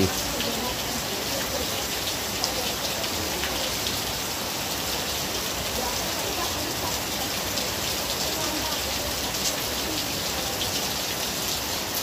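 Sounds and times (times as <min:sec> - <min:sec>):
steady rain on wet ground: 0:00.0 - 0:12.0.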